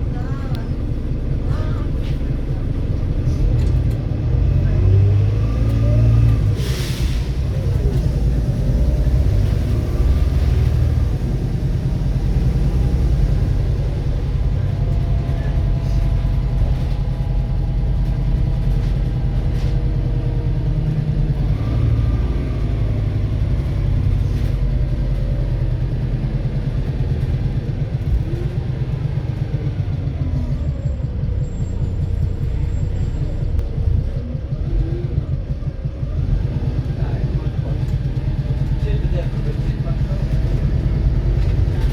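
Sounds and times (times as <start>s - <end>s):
bus diesel engine rumbling: 0.0s - 41.9s.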